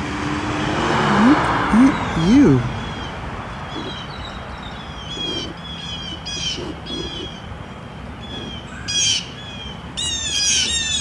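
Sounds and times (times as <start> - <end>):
faint lower bird calls: 1.9 - 11.0.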